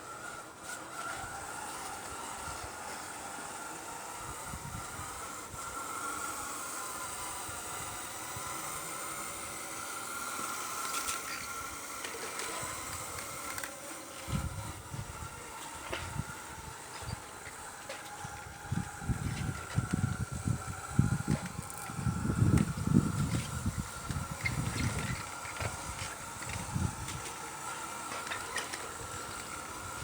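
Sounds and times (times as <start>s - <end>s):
hydraulic pump whine: 0.0s - 30.0s.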